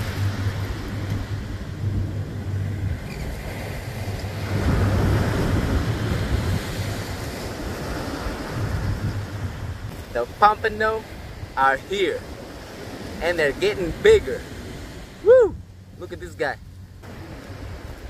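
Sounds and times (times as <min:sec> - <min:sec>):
ocean surf breaking: 0:00.0 - 0:18.0
wind rumbling on microphone: 0:00.0 - 0:18.0.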